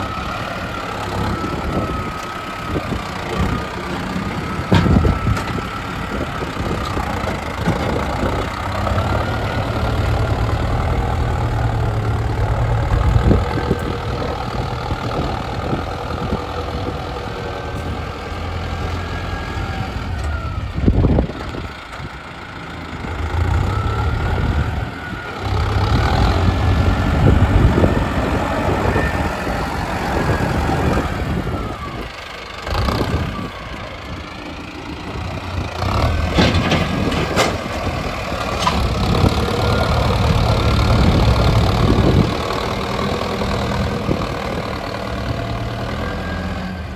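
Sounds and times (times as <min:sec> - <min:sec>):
tractor engine under load: 0:00.0 - 0:46.9.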